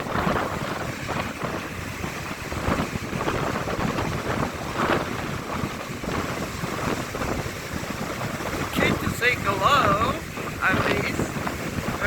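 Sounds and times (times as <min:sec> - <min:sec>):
ocean surf rushing: 0:00.0 - 0:12.0
wind buffeting microphone: 0:00.0 - 0:12.0.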